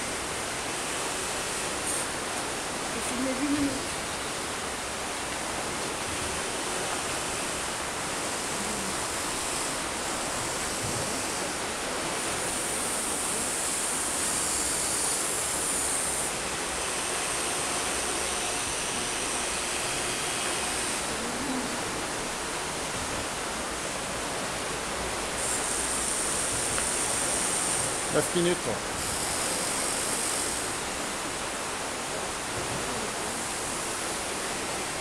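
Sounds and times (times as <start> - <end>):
faint high electric motor whine: 0.0 - 35.0
river water rushing: 0.0 - 35.0.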